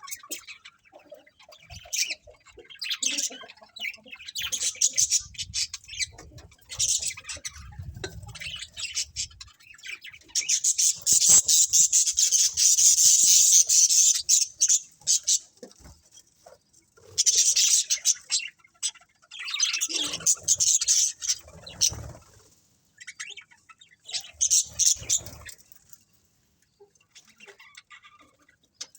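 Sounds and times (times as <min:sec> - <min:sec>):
budgerigars chattering and chirping: 0:00.0 - 0:22.4, 0:23.0 - 0:25.7, 0:26.8 - 0:28.9.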